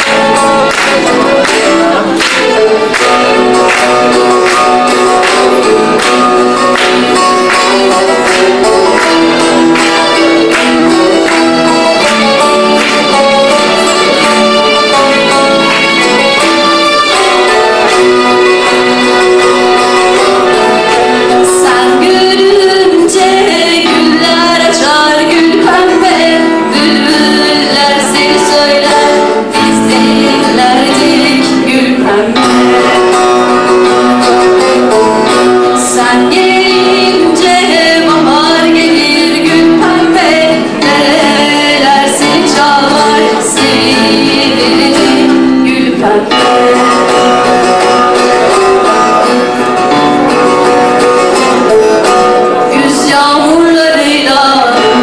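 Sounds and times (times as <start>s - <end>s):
nylon-string guitar: 0.0s - 55.0s
person singing: 0.0s - 55.0s.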